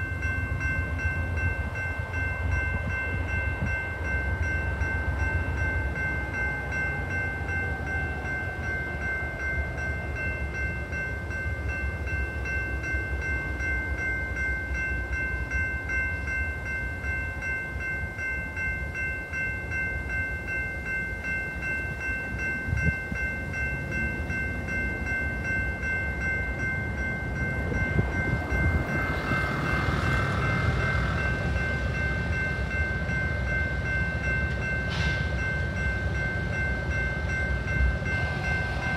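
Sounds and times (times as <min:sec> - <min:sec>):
diesel train rumbling: 0:00.0 - 0:38.9
railroad crossing bell ringing: 0:00.0 - 0:38.9.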